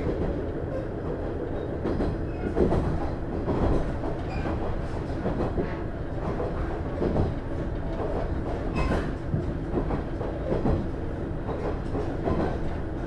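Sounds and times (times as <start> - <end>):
railcar low rumble: 0.0 - 13.0
wheels clattering on track: 0.0 - 13.0.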